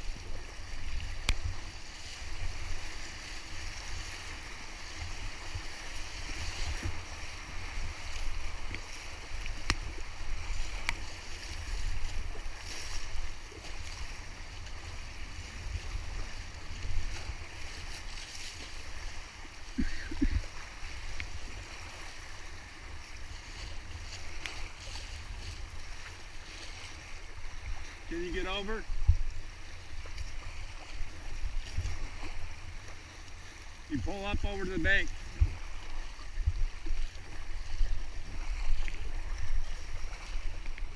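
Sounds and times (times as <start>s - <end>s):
paddle strokes splashing: 0.0s - 40.9s
water slapping a boat: 0.0s - 40.9s
wind buffeting the camera: 0.0s - 40.9s.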